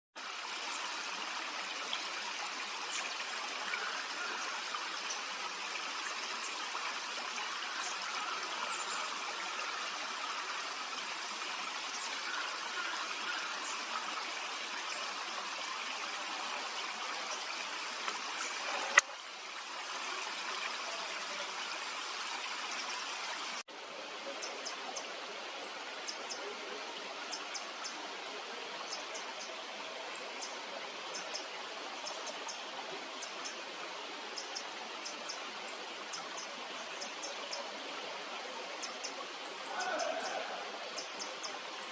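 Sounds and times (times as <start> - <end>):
stream water rushing: 0.2 - 41.9.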